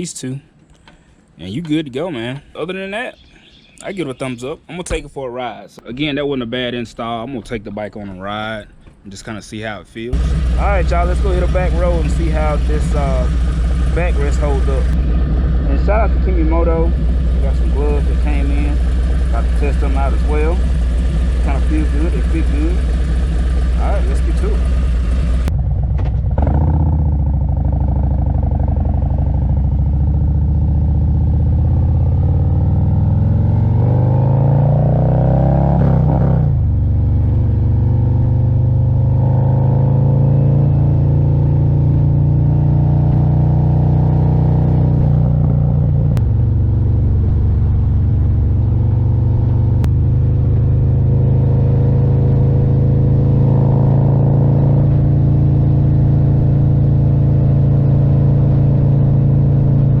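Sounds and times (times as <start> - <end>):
motorcycle engine accelerating: 10.1 - 60.0.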